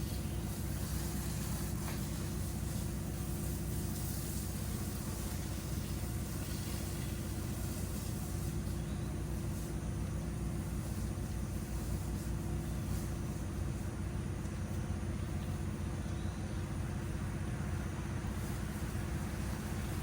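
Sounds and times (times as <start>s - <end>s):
pressure washer engine droning: 0.0s - 20.0s.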